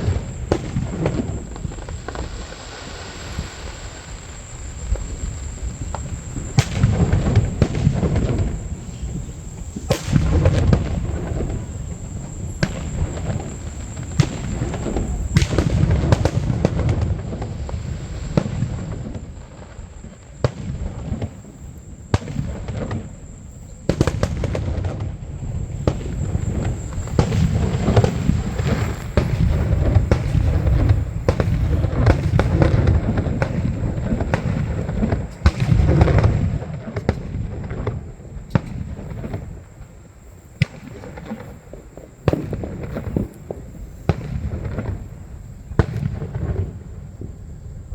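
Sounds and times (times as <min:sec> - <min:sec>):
fireworks bursting with booms and cracks: 0:00.0 - 0:47.9.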